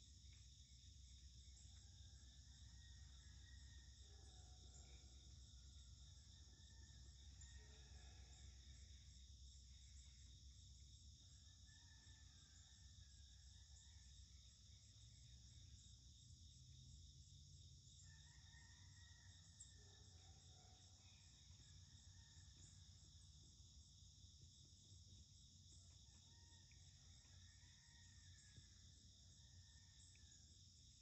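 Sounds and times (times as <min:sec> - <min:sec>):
crickets and insects chorus: 0:00.0 - 0:31.0.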